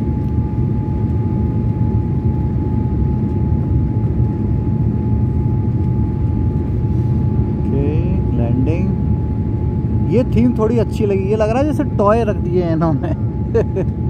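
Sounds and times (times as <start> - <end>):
engine and air rumble: 0.0 - 14.0
thin steady whine: 0.0 - 14.0.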